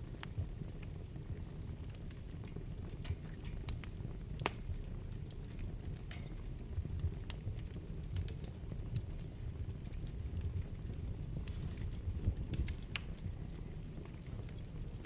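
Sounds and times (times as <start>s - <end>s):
fire crackling and popping: 0.0s - 15.0s
flames rumbling: 0.0s - 15.0s.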